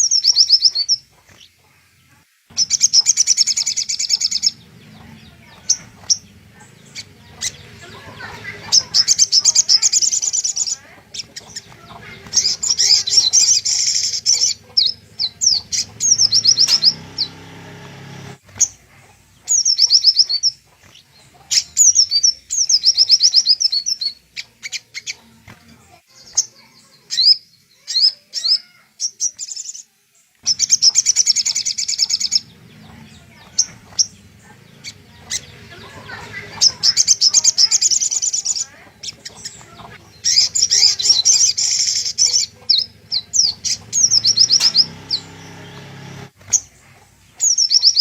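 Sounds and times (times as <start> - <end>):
bird chattering chirps and trills: 0.0 - 48.0.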